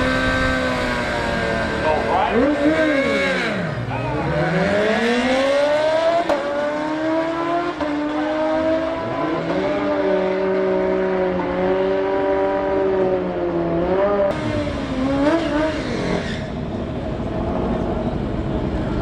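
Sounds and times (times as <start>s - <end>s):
motorcycle engine revving high: 0.0s - 16.7s.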